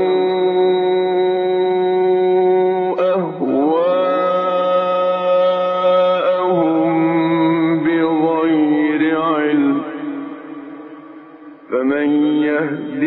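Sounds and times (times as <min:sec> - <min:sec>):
man chanting melodically: 0:00.0 - 0:10.8, 0:11.6 - 0:13.0.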